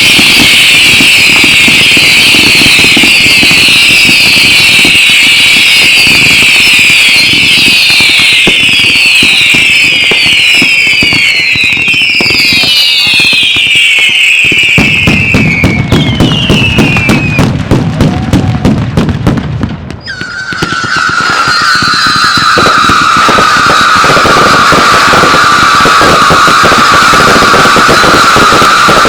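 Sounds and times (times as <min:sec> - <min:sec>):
firework whistles falling in pitch: 0:00.0 - 0:18.6, 0:20.0 - 0:29.0
firework cracks and bangs: 0:00.0 - 0:29.0.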